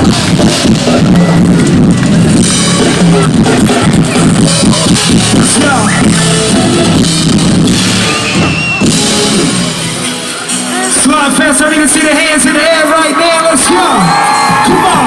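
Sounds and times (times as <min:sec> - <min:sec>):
loud music with drum beat and bass: 0:00.0 - 0:15.0.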